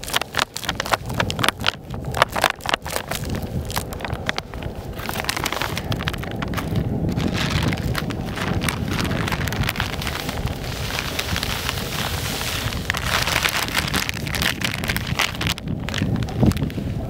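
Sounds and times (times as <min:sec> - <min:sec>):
hands mixing dry bait: 0:00.0 - 0:16.8
wind rumble on microphone: 0:00.0 - 0:17.0.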